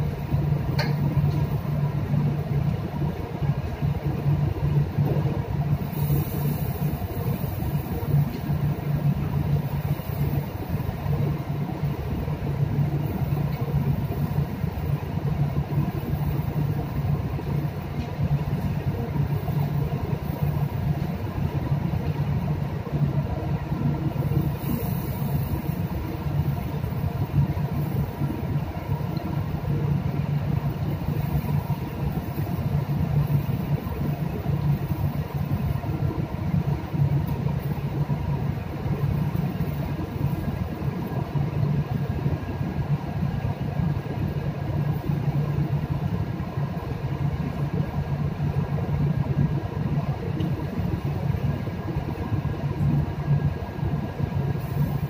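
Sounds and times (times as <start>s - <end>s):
low machinery drone: 0.0s - 55.0s.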